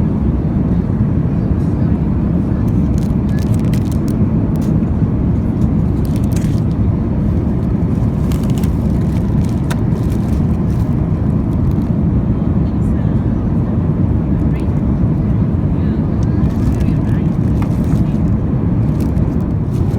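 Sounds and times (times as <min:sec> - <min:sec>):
airliner cabin rumble: 0:00.0 - 0:19.9.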